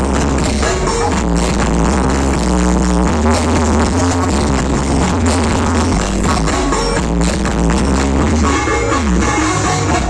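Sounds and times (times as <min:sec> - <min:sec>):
electronic dance music with heavy bass: 0:00.0 - 0:10.0.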